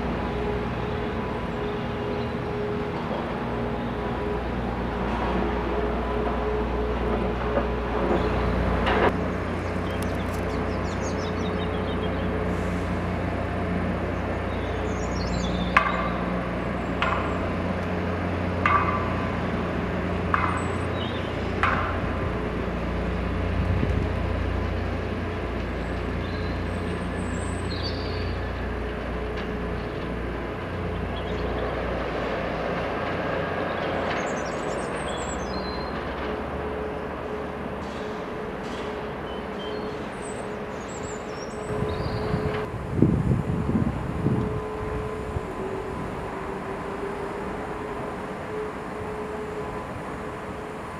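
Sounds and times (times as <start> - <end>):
distant train engine drone: 0.0 - 50.9.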